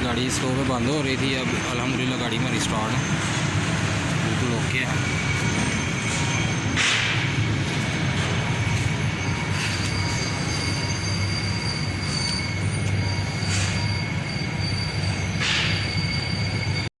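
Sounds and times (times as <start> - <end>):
high whine: 0.0 - 16.9.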